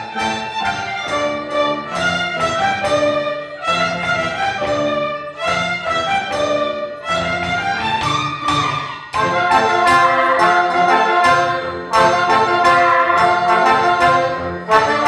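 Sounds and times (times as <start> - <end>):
orchestral music with violins: 0.0 - 15.0.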